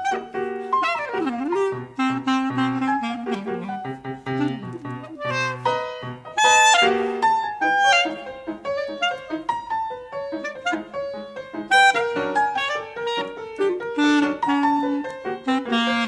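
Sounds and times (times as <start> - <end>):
clarinet playing: 0.0 - 16.0
free jazz piano: 0.0 - 16.0.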